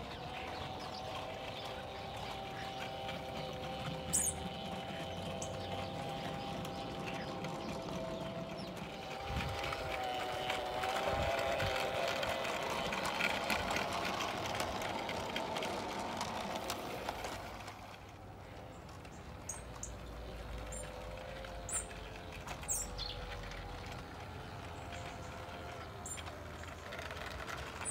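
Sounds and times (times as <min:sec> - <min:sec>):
model train wheels clicking: 0:00.0 - 0:27.9.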